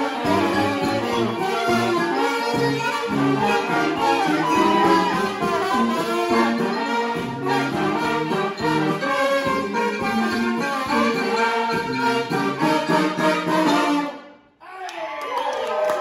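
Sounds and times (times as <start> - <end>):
brass band playing: 0.0 - 14.6.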